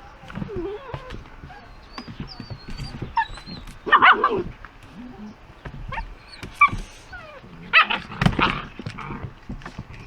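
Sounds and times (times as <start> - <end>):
puppies yipping and whimpering: 0.2 - 9.6.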